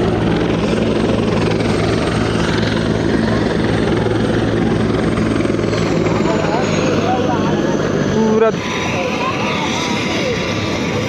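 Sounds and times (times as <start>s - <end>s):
helicopter rotor chopping: 0.0s - 11.0s
high turbine whine: 0.0s - 11.0s.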